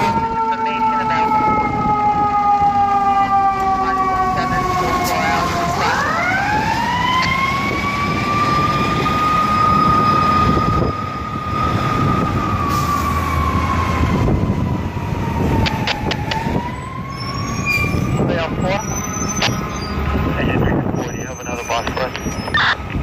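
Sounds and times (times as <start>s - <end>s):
fire truck siren wailing: 0.0s - 23.0s.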